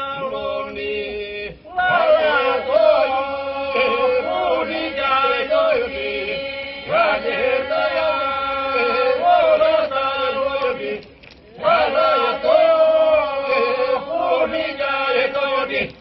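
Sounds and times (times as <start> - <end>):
person singing slow folk chant: 0.0 - 16.0.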